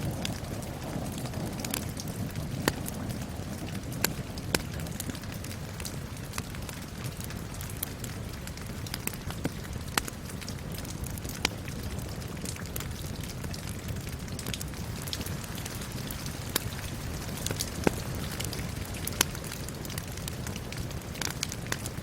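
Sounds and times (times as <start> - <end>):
steady rain hiss: 0.0 - 22.0
wood fire crackling: 0.0 - 22.0.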